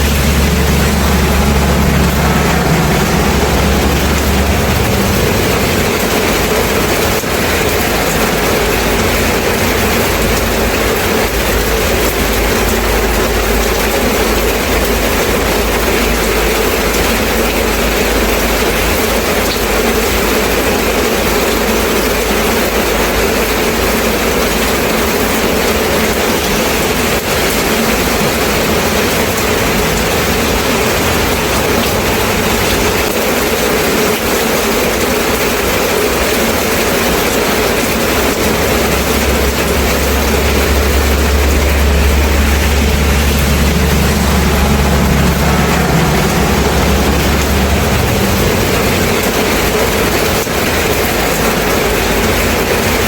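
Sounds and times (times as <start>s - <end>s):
low rumble: 0.0s - 19.0s, 25.5s - 34.0s, 36.1s - 53.0s
steady rain falling: 0.0s - 53.0s.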